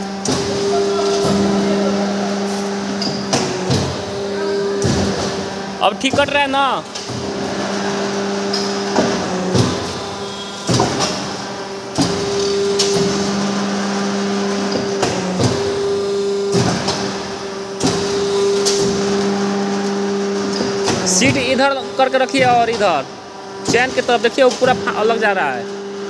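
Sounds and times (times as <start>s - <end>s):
press machine humming: 0.0s - 26.0s.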